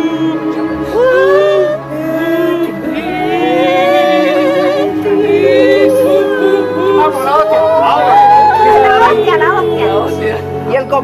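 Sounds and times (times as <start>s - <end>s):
person singing with vibrato: 0.0s - 10.6s.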